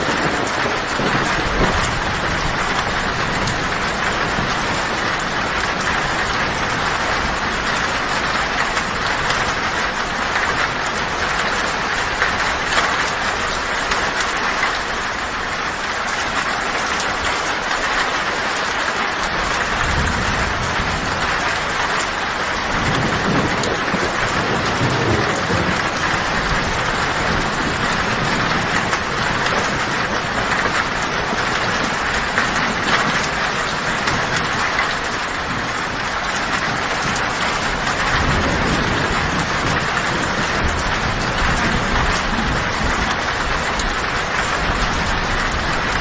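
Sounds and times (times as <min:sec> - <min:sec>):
thunder rumbling: 0:00.0 - 0:18.0, 0:18.8 - 0:46.0
heavy rain on a tin roof: 0:00.0 - 0:46.0.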